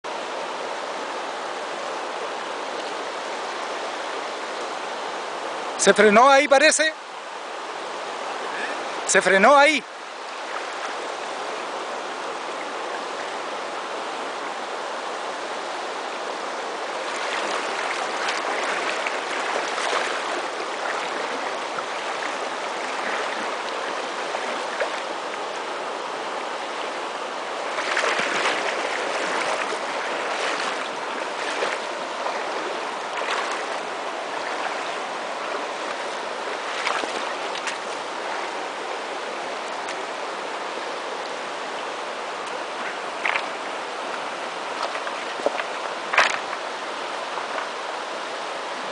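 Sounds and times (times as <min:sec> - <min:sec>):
river rushing over stones: 0:00.1 - 0:48.9.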